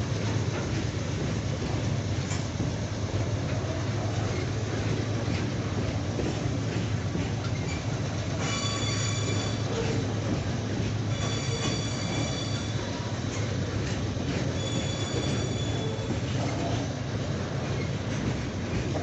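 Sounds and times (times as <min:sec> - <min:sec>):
freight wagons rumbling: 0:00.0 - 0:19.0
wheels squealing on rails: 0:03.2 - 0:19.0.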